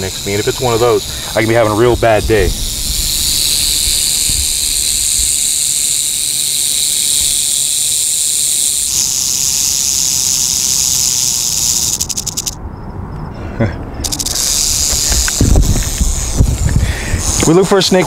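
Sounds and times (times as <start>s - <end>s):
rattlesnake rattling its tail: 0.0s - 12.6s, 14.0s - 18.0s.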